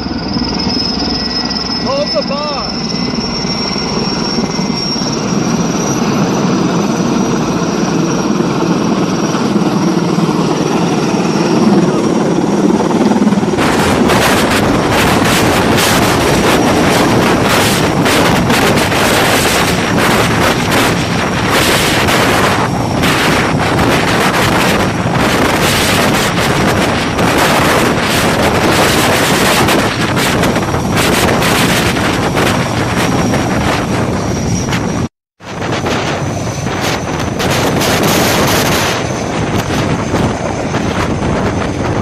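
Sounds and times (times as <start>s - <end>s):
heavy gusting wind buffeting: 0.0s - 42.0s
helicopter rotor beating: 0.0s - 42.0s
high turbine whine: 0.0s - 42.0s.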